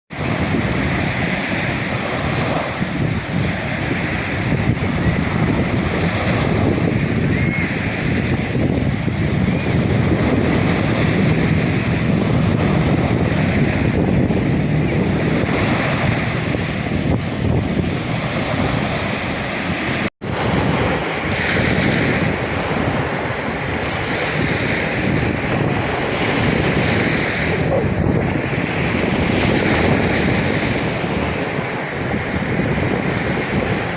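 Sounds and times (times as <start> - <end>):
surf breaking on beach: 0.1 - 33.9
wind buffeting microphone: 0.1 - 33.9.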